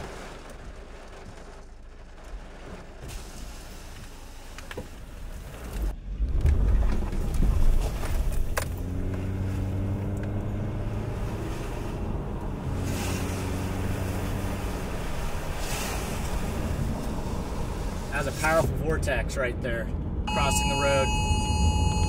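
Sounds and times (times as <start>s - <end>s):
car engine hum: 0.0s - 22.0s
road noise: 0.0s - 22.0s.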